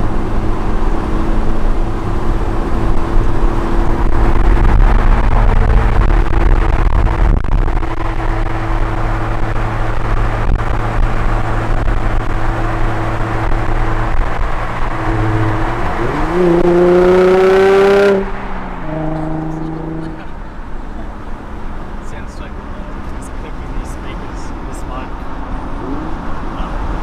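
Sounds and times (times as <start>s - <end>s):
car engine running and revving: 0.0s - 27.0s.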